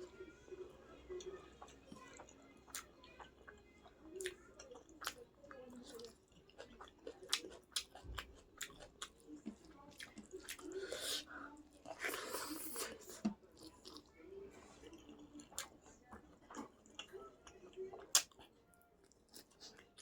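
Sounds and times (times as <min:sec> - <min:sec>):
chewing and biting food: 0:01.2 - 0:14.2, 0:14.8 - 0:20.0.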